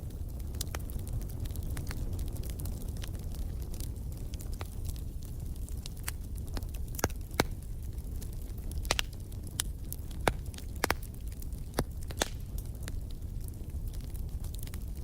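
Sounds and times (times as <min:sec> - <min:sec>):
low rumble of burning fire: 0:00.0 - 0:15.0
wood fire pops and snaps: 0:00.0 - 0:15.0.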